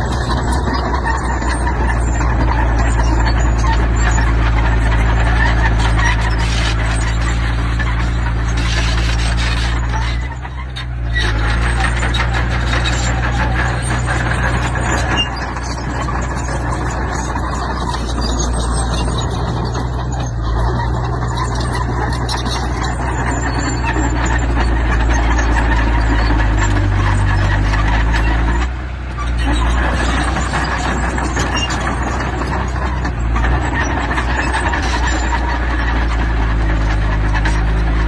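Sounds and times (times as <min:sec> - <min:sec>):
heavy diesel machinery running: 0:00.0 - 0:38.0
stone and metal clatter: 0:00.0 - 0:38.0.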